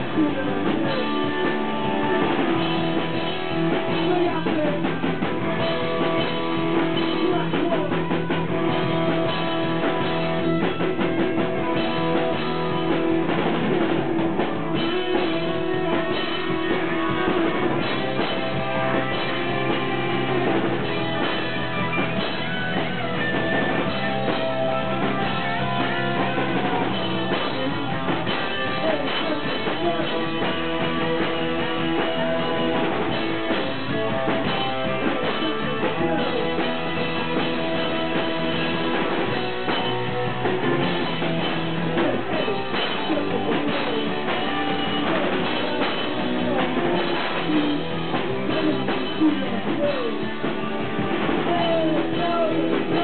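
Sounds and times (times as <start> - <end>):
drum kit: 0.0 - 53.0
electric guitar: 0.0 - 53.0
rock band playing: 0.0 - 53.0.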